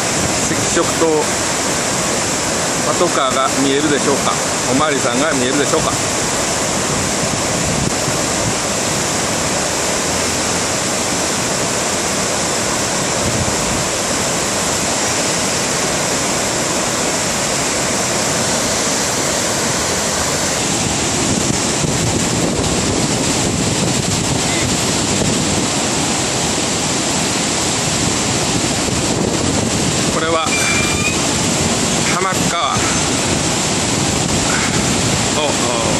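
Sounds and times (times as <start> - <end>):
floodwater rushing down a weir: 0.0 - 35.9.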